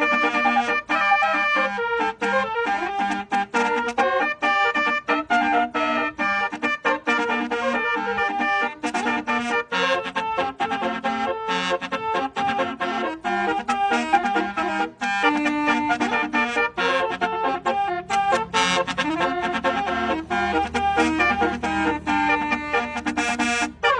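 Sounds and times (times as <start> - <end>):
musical air horn playing a melody: 0.0 - 23.9.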